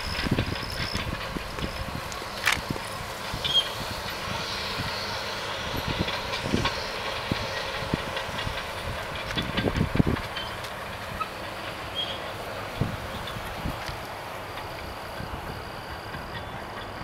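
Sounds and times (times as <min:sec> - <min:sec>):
distant bulldozer rumble: 0:00.0 - 0:17.0.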